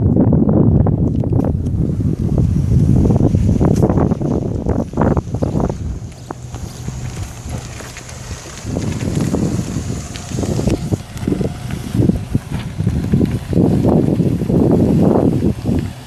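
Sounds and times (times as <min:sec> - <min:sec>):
wind buffeting microphone: 0:00.0 - 0:16.0
pickup truck driving past: 0:01.8 - 0:16.0.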